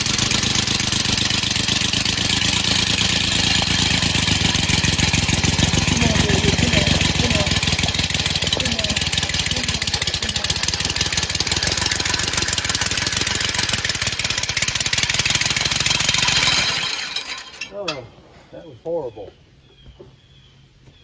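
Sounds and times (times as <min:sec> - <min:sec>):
compressed-air engine chuffing: 0:00.0 - 0:18.2.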